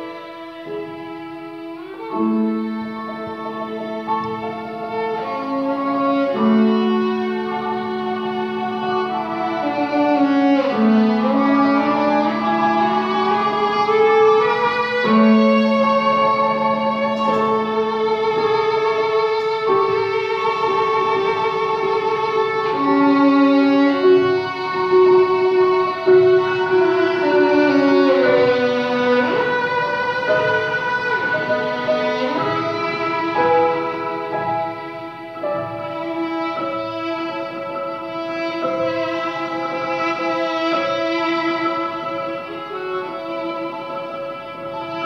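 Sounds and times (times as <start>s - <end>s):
piano accompaniment: 0.0s - 45.0s
violin playing slow melody: 0.0s - 45.0s.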